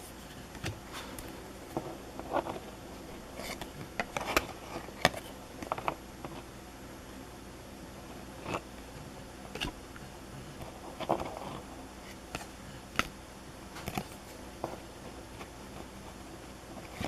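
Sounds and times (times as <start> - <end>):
cards rustling: 0.0 - 6.5, 8.2 - 17.0
steady low hum: 0.0 - 17.0.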